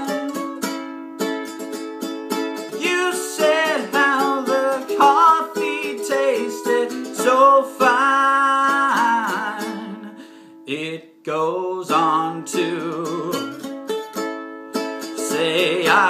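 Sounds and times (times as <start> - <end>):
person singing: 0.0 - 0.8, 2.6 - 13.9, 15.0 - 16.0
ukulele strumming: 0.0 - 10.7, 11.5 - 16.0.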